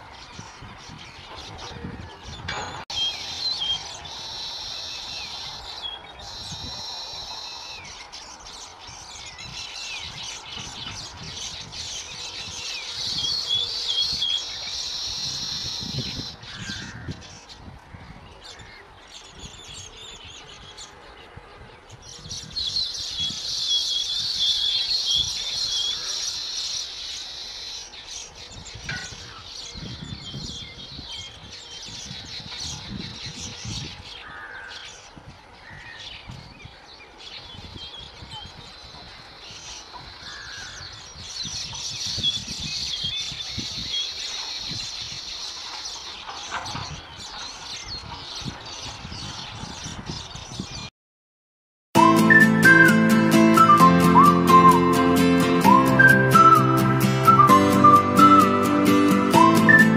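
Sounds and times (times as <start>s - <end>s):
weaver birds chattering: 0.0s - 50.9s.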